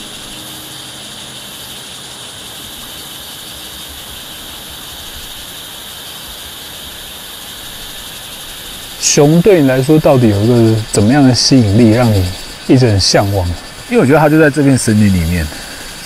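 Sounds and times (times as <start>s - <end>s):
insects buzzing chorus: 0.0s - 16.0s.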